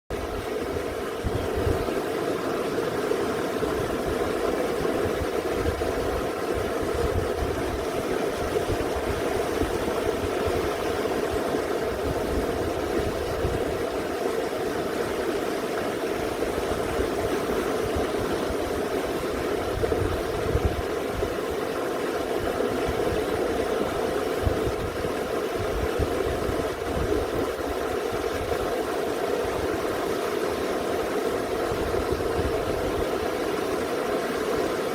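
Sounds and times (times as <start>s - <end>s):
stream water rushing: 0.1s - 34.9s.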